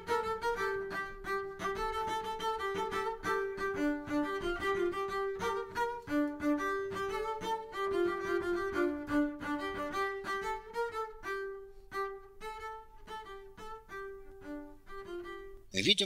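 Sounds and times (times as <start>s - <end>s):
strings playing a busy melody: 0.0s - 15.7s.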